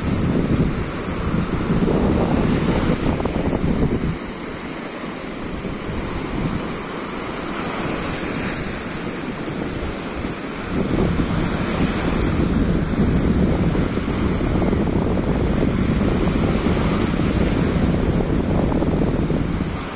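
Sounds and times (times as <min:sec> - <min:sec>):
small waves breaking on shore: 0:00.0 - 0:19.9
wind buffeting microphone: 0:00.0 - 0:19.9.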